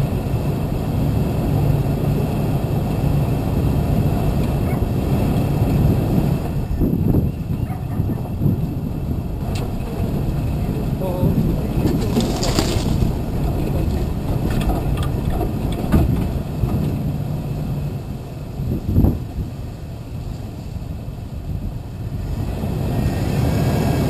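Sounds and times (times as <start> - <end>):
vehicle rumbling over dirt trail: 0.0 - 24.0
wind noise on microphone: 0.0 - 24.0.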